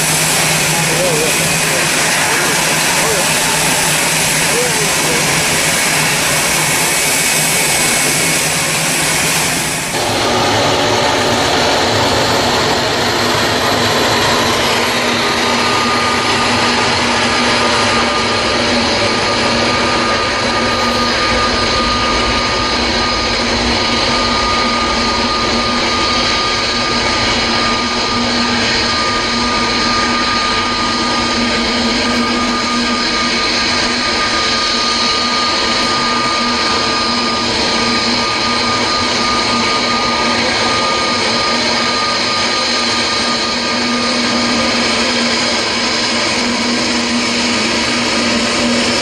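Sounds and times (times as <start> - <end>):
jet engines whining: 0.0 - 49.0
turboprop airliner climbing: 0.0 - 49.0.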